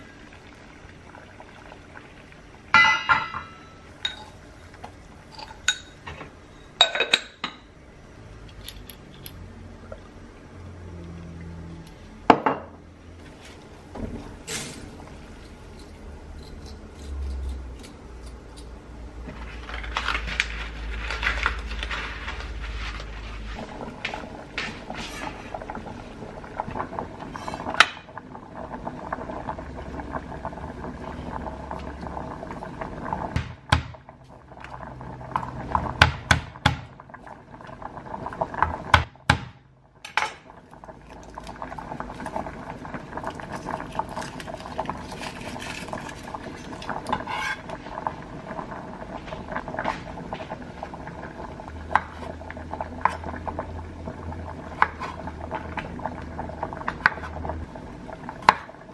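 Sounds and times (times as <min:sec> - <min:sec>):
pasta boiling in a pot: 0:00.0 - 0:58.9.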